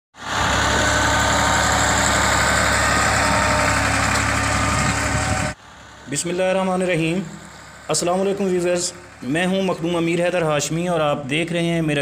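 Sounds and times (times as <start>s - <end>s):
tractor diesel engine running: 0.2s - 12.0s.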